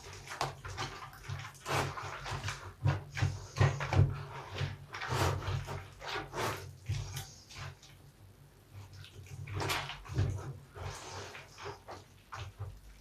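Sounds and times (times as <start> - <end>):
soapy sponge squelching: 0.0 - 13.0.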